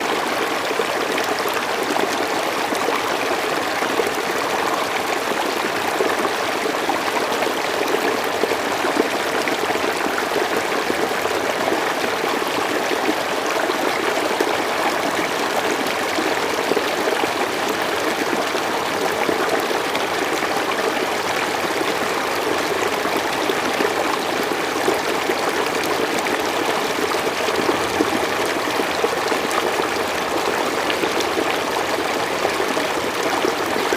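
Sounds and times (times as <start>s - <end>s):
stream flowing over rocks: 0.0s - 33.9s.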